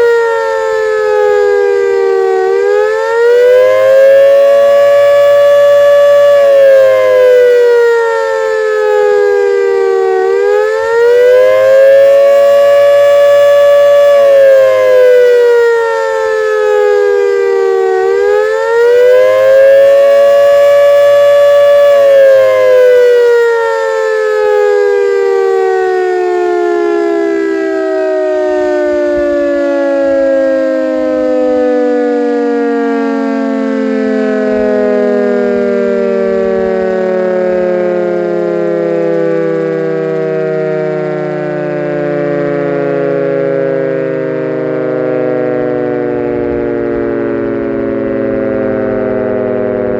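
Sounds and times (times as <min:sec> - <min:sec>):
warning siren wailing: 0:00.0 - 0:49.9.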